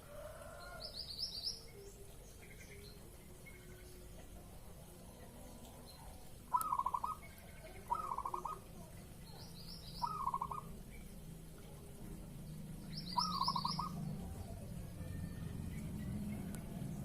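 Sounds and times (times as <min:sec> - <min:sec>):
dove cooing song: 0:00.0 - 0:11.1, 0:12.9 - 0:17.0
small bird chirping: 0:00.6 - 0:04.2, 0:05.2 - 0:17.0.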